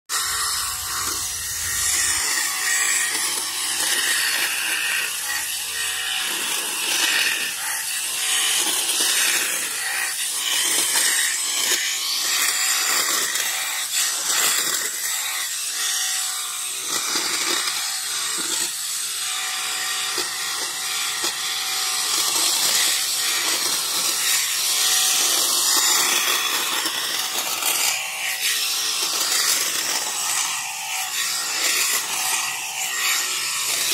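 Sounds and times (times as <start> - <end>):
hedge trimmer rasping: 0.1 - 15.8, 16.7 - 33.9.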